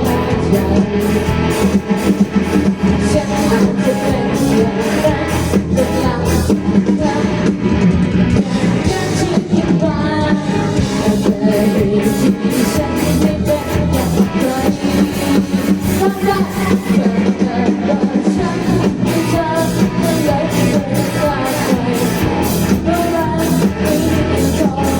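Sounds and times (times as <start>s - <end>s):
person singing: 0.0s - 7.5s, 8.4s - 24.9s
drum kit: 0.0s - 24.9s
electric guitar: 0.0s - 24.9s.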